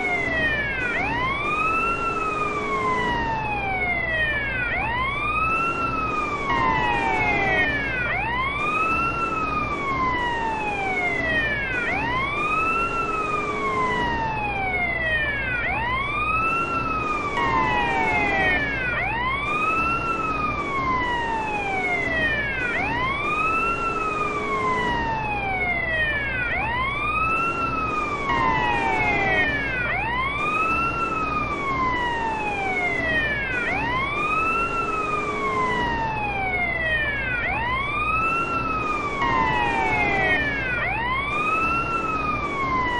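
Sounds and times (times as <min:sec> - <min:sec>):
police siren wailing: 0:00.0 - 0:42.9.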